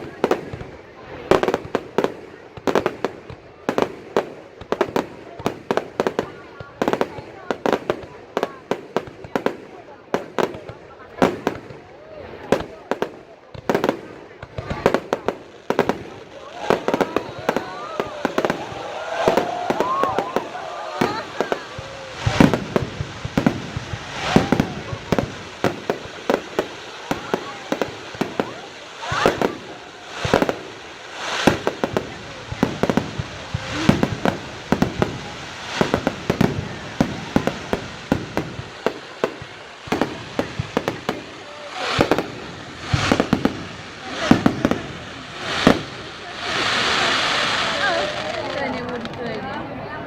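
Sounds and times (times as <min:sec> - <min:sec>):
fireworks bangs and pops: 0:00.0 - 0:50.0.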